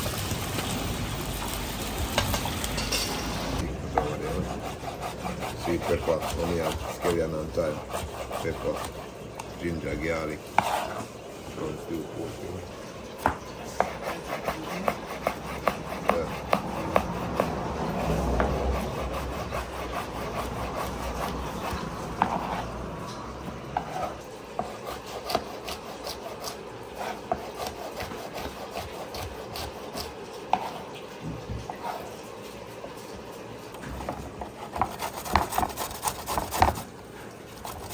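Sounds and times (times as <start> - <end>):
utensil stirring and scraping pot: 2.1 - 37.9.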